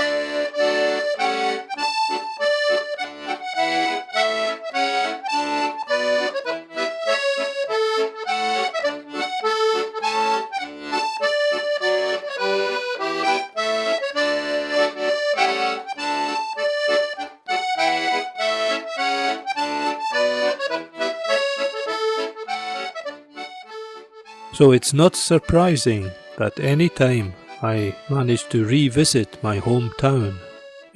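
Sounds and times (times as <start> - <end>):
accordion music: 0.0 - 30.9.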